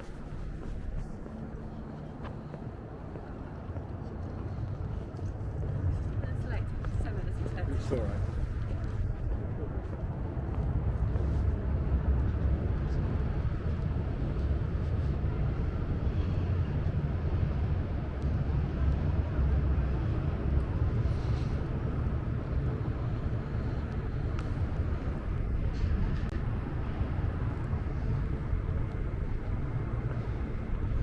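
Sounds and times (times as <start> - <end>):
low city rumble: 0.0 - 31.0.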